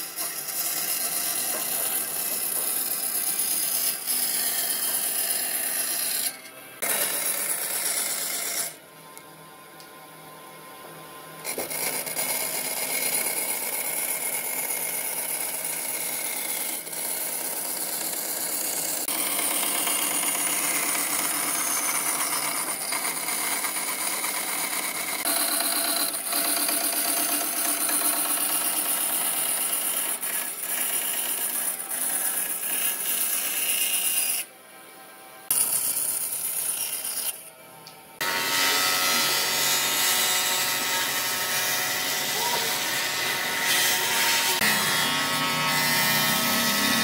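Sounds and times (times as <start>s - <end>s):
band saw cutting wood: 0.0s - 8.8s, 11.4s - 34.6s, 35.5s - 37.6s, 38.2s - 47.0s.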